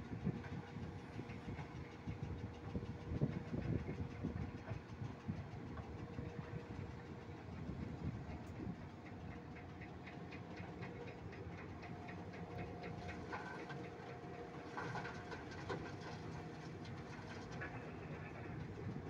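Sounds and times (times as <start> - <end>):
rapid rhythmic ticking: 0.6 - 19.0.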